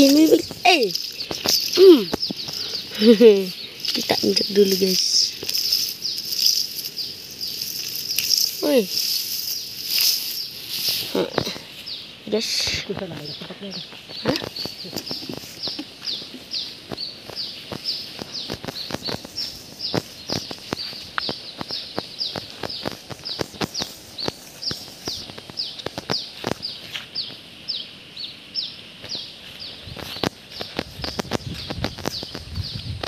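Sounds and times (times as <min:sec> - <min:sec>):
footsteps in wet grass and mud: 0:00.0 - 0:27.7, 0:28.8 - 0:33.0.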